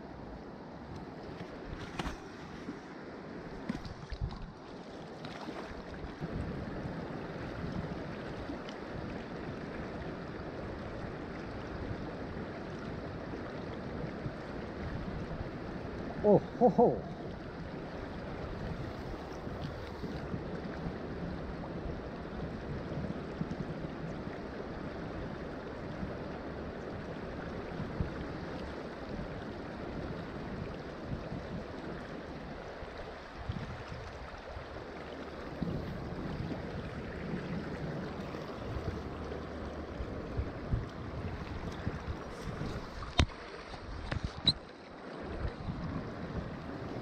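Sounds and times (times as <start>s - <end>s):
creek water flowing: 0.0s - 47.0s.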